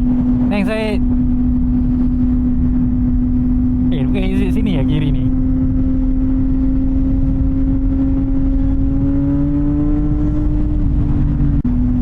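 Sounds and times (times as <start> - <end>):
low wind rumble: 0.0 - 12.0
motorcycle engine running: 0.0 - 12.0.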